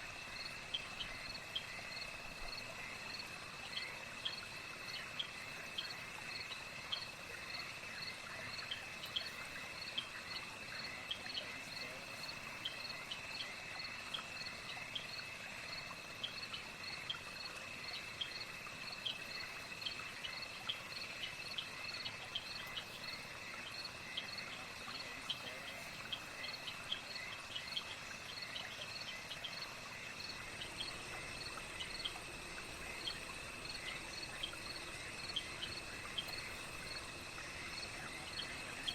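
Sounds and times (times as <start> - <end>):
crickets trilling and chirping: 0.0 - 38.9
higher insect trill: 0.0 - 38.9.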